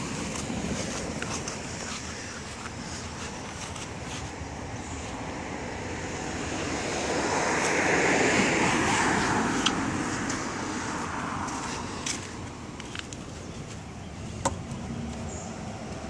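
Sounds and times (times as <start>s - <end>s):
vehicle passing by: 0.0s - 13.6s.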